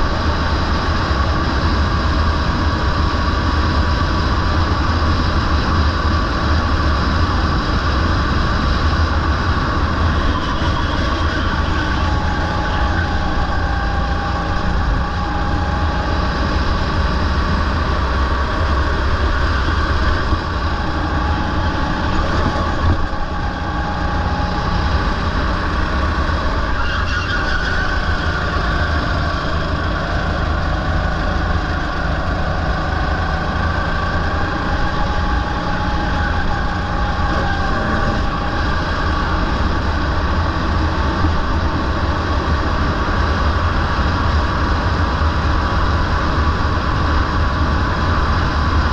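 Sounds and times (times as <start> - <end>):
go-kart engine running: 0.0 - 48.9.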